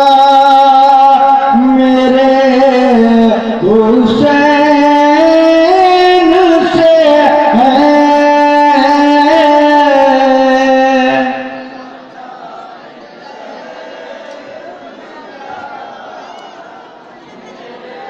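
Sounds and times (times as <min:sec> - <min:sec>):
person singing over loudspeaker: 0:00.0 - 0:18.0.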